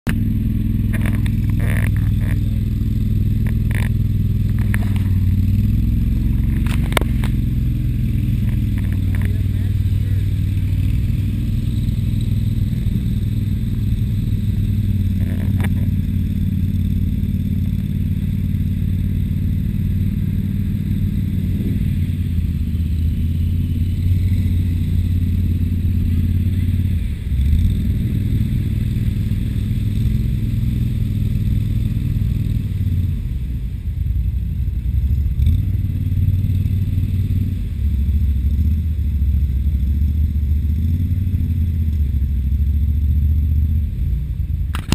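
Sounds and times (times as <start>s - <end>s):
tracked vehicle engine droning: 0.0s - 44.9s
vehicle driving through mud: 0.1s - 44.9s.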